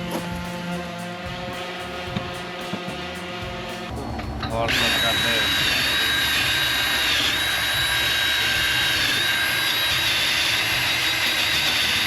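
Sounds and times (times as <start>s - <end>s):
power tool whining: 0.0s - 12.0s.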